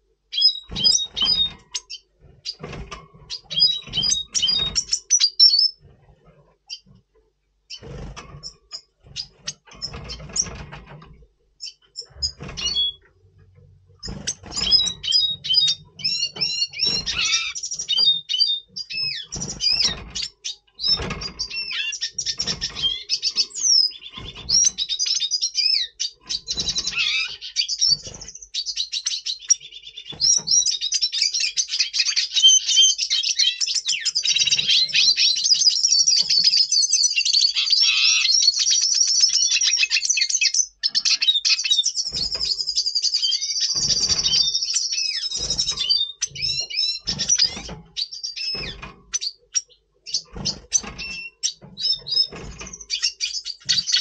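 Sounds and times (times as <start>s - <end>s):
bird twittering song: 0.0s - 6.0s, 6.6s - 7.0s, 7.6s - 54.0s.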